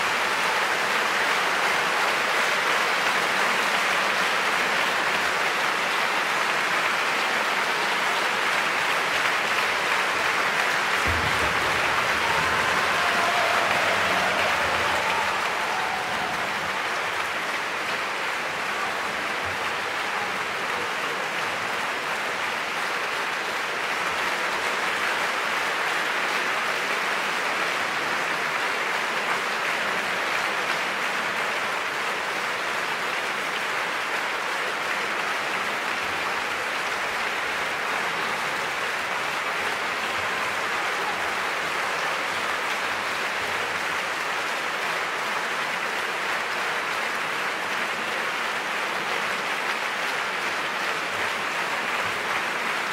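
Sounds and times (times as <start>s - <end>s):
audience applauding: 0.0s - 52.9s.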